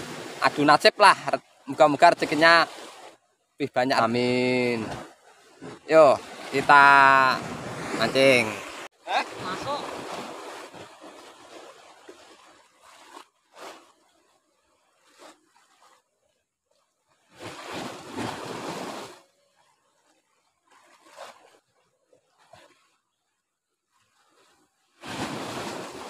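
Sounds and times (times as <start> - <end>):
waves sloshing against rock: 0.0 - 23.2, 23.9 - 26.0.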